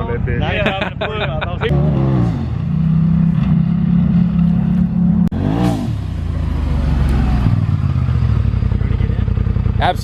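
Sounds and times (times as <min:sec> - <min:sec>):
engine running and revving: 0:01.7 - 0:10.0.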